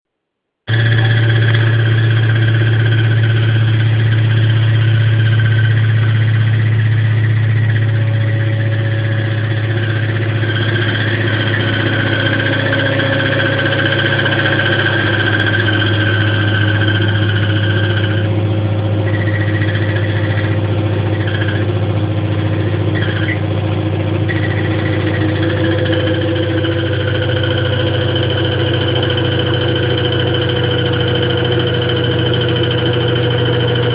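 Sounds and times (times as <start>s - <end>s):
high whining tones: 0.7s - 33.9s
washing machine spinning: 0.7s - 33.9s.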